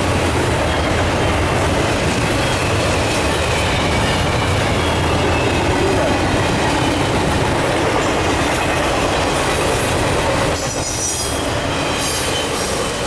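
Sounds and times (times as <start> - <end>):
freight train wheels rushing: 0.0 - 13.0.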